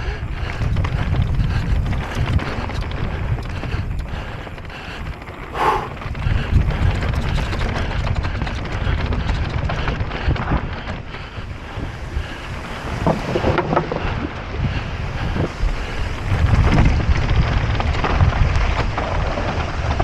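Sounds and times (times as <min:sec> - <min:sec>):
bike rattling and clicking: 0:00.0 - 0:20.0
tyres rumbling on rough trail: 0:00.0 - 0:20.0
wind buffeting microphone: 0:00.0 - 0:20.0.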